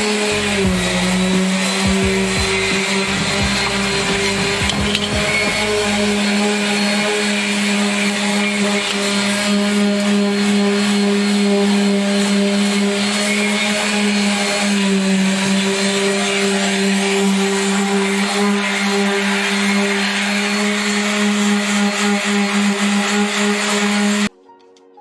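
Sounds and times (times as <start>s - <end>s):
power tool motor humming: 0.0s - 24.3s.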